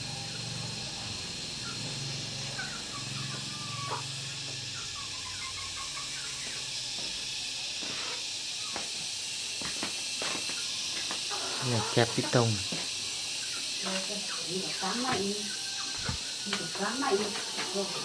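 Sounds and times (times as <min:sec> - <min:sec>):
steady background hiss: 0:00.0 - 0:18.0
faint chirping calls: 0:00.1 - 0:09.1, 0:10.4 - 0:17.6.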